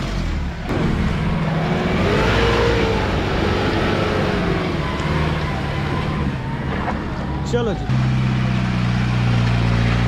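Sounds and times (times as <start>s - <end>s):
suv engine revving under load: 0.0s - 10.0s.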